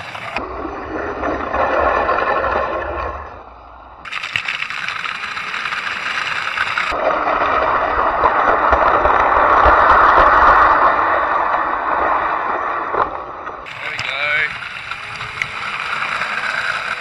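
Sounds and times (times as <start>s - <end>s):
wheels scraping on asphalt: 0.0s - 17.0s.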